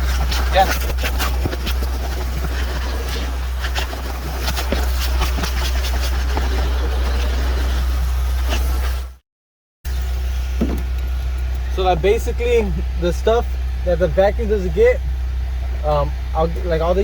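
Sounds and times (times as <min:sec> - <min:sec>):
machine droning with hiss: 0:00.0 - 0:09.2, 0:09.9 - 0:17.0.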